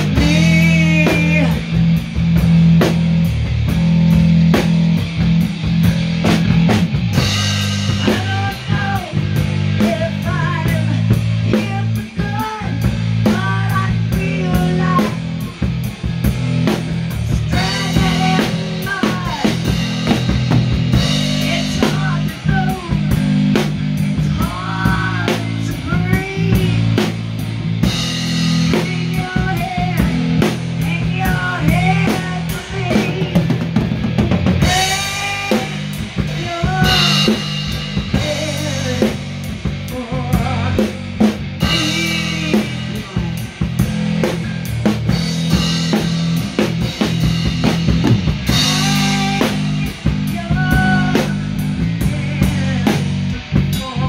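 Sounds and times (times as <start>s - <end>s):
bass guitar: 0.0s - 54.0s
rock drum beat: 0.0s - 54.0s.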